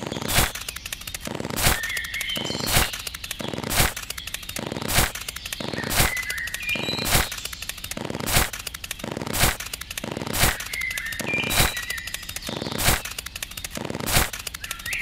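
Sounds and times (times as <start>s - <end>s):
bird chirps: 0.0s - 15.0s
dense crackle: 0.0s - 15.0s.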